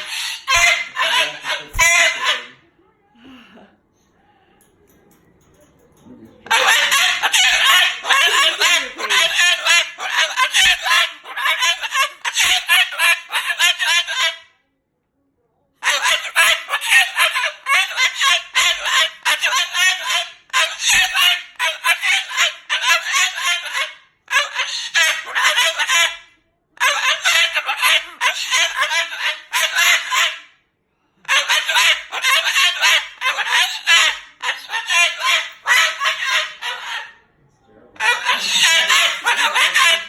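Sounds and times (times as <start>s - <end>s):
cockatoo screeching: 0.0s - 2.6s, 6.4s - 14.5s, 15.8s - 30.6s, 31.2s - 37.2s, 38.0s - 40.0s.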